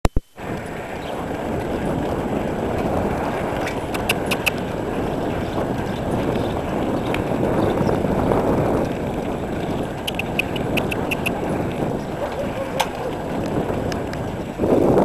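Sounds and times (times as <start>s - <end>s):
bicycle wind and tyre noise: 0.1s - 15.0s.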